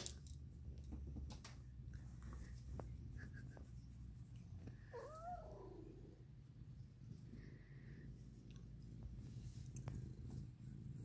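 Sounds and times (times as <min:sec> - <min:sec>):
cat purring: 0:00.9 - 0:11.0.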